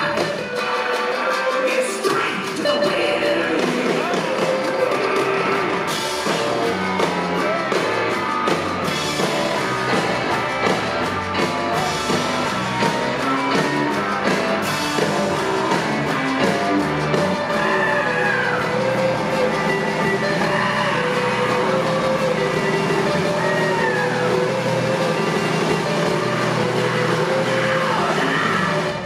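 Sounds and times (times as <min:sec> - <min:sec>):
live rock band playing: 0:00.0 - 0:29.0.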